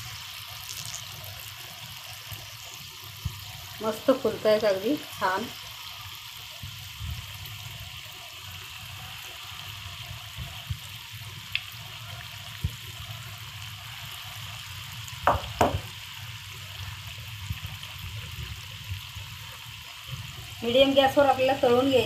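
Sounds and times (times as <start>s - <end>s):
batter deep-frying in hot oil: 0.0s - 22.0s.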